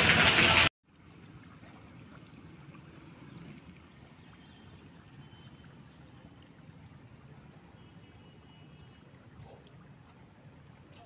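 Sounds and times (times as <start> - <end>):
water flowing over sand: 0.0 - 11.0.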